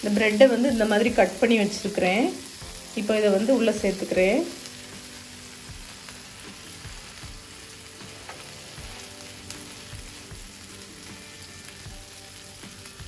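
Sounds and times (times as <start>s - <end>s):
butter sizzling on a griddle: 0.0s - 13.0s.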